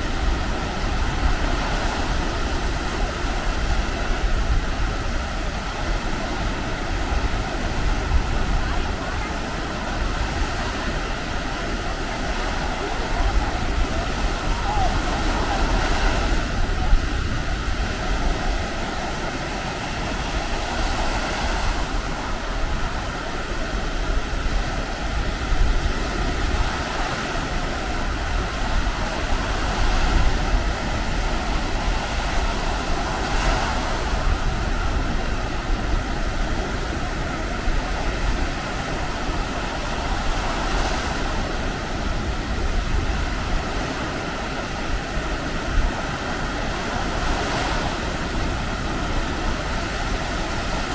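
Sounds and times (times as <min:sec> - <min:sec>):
surf washing onto beach: 0:00.0 - 0:50.9
waves breaking: 0:00.0 - 0:50.9
wind rumbling on microphone: 0:00.0 - 0:50.9.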